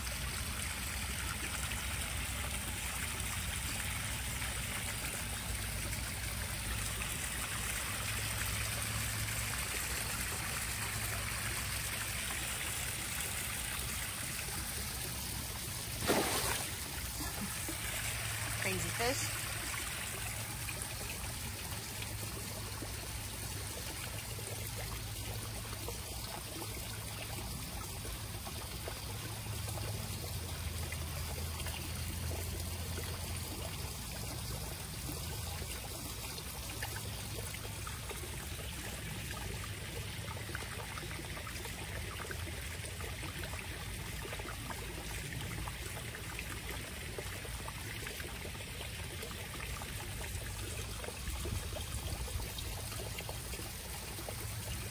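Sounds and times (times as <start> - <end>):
fountain pouring into pond: 0.0 - 54.9
small waterfall over rocks: 0.0 - 54.9.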